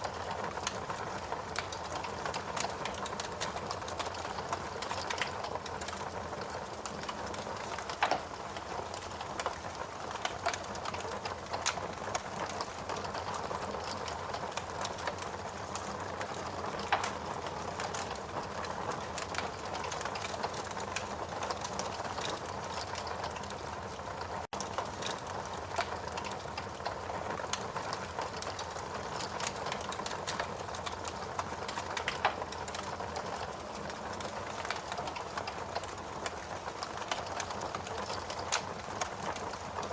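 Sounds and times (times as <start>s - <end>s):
wood fire crackling: 0.0s - 39.9s
fire pops: 0.2s - 23.6s, 24.5s - 39.6s.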